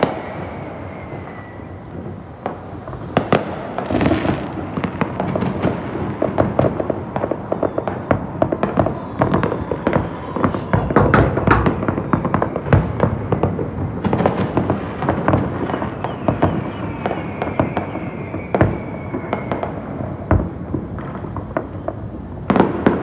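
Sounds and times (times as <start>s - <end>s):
firework bangs and crackling pops: 0.0s - 23.0s
firework whistle falling: 0.0s - 23.0s.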